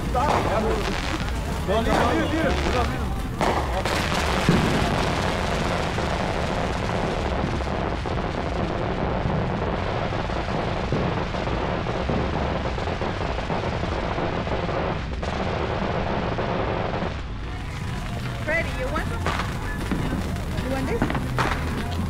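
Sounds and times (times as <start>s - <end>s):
fireworks banging and popping: 0.0s - 22.0s
fountain firework hissing and crackling: 0.0s - 22.0s.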